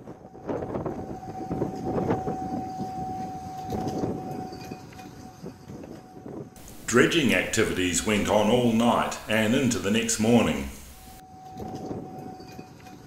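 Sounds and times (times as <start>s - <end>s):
steady machine whine: 0.1s - 13.0s.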